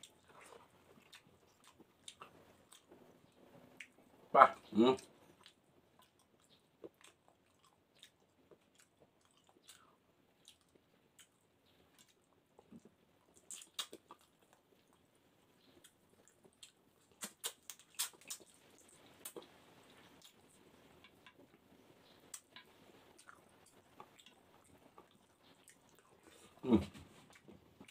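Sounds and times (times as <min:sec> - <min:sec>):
soft chewing with clicks: 0:00.0 - 0:27.9.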